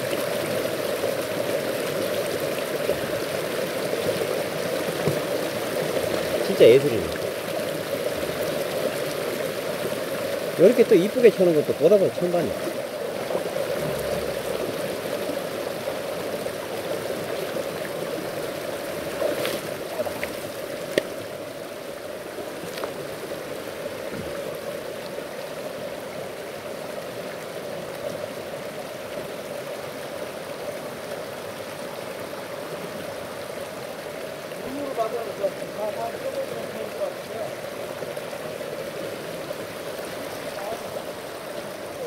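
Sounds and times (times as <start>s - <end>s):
stream rushing over rocks: 0.0s - 42.0s.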